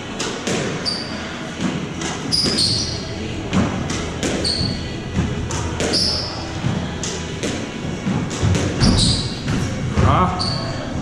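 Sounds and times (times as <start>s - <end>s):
squash ball cracking off rackets: 0.1s - 9.8s
shoes squeaking on wooden floor: 0.5s - 11.0s.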